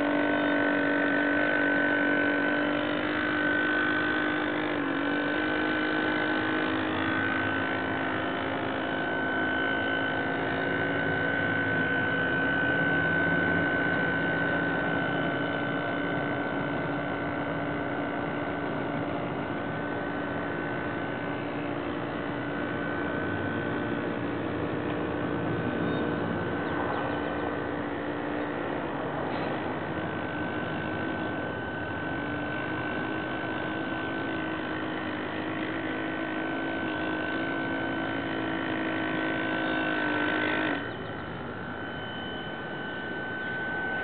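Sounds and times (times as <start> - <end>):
model boat motor whining: 0.0 - 44.0.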